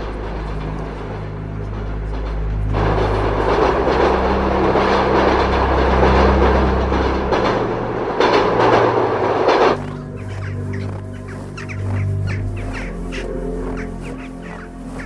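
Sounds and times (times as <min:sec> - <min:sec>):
background music: 0:00.0 - 0:15.0
train passing: 0:00.0 - 0:15.0.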